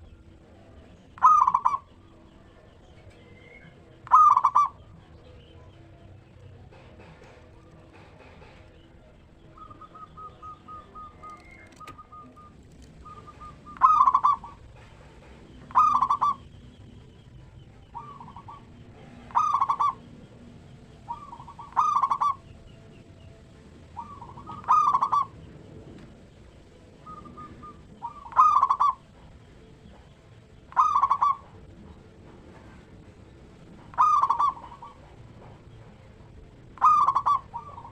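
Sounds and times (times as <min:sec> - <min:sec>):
dove trilling and cooing: 0:00.0 - 0:37.9.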